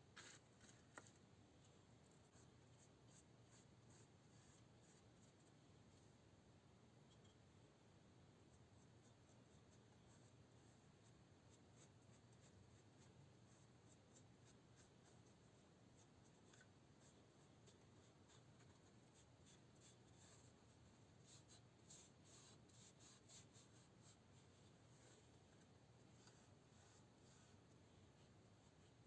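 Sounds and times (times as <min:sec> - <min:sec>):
faint scratching strokes: 0:00.0 - 0:06.2, 0:08.4 - 0:29.0.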